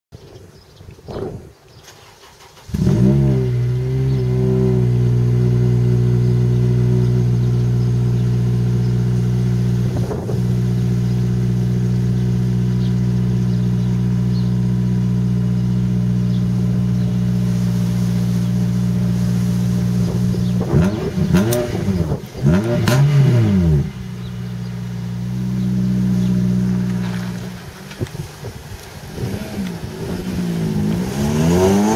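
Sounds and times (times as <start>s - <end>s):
car engine starting and idling: 1.8s - 31.9s
car engine revving: 2.1s - 31.9s.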